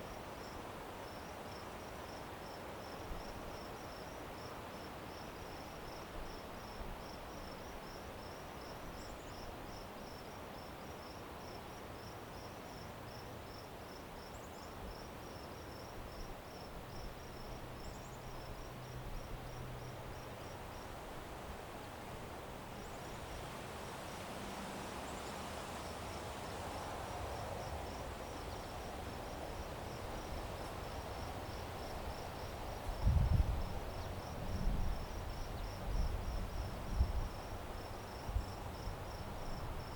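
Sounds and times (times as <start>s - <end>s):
cricket chirping: 0.0s - 21.0s, 25.0s - 39.9s.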